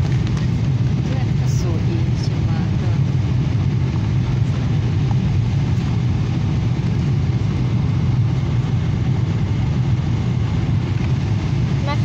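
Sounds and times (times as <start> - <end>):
airliner cabin rumble in flight: 0.0 - 12.0.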